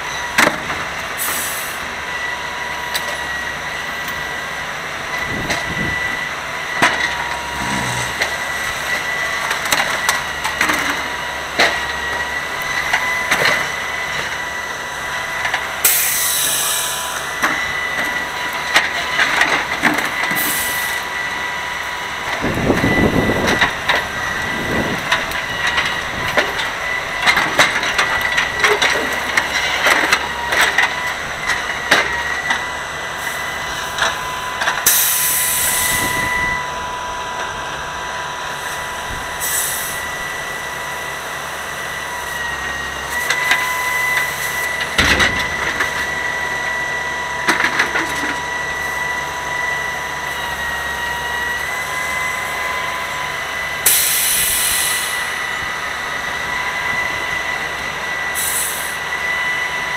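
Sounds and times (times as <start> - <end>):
hydraulic whine: 0.0 - 59.9
truck engine running: 0.0 - 59.9.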